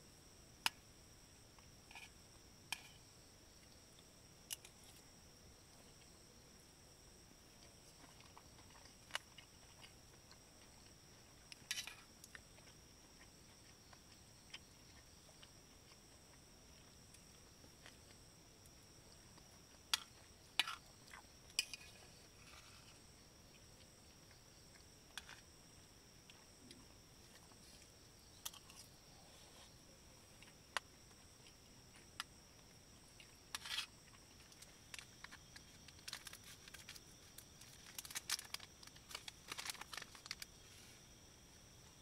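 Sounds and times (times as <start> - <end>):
night insects chirring: 0.0 - 42.0.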